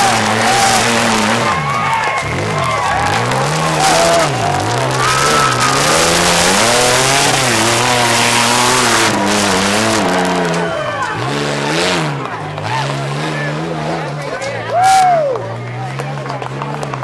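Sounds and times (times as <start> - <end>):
buggy engine revving: 0.0 - 17.0
tires spinning in loose dirt: 0.0 - 17.0.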